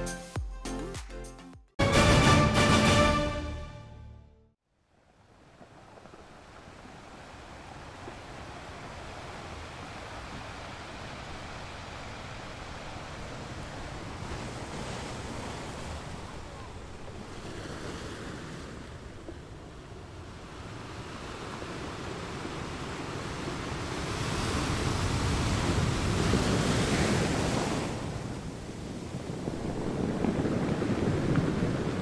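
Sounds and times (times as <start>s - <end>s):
ocean surf washing: 5.8s - 32.0s
wind on microphone: 6.1s - 32.0s.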